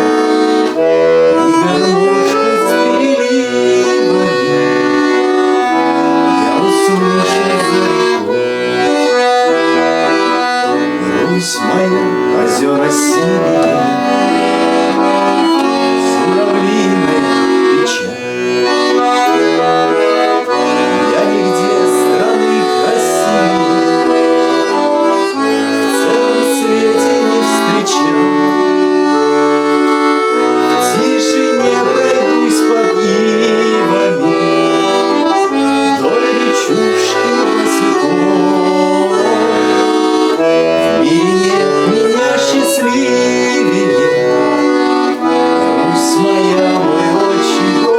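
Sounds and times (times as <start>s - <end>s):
accordion playing folk melody: 0.0s - 47.9s.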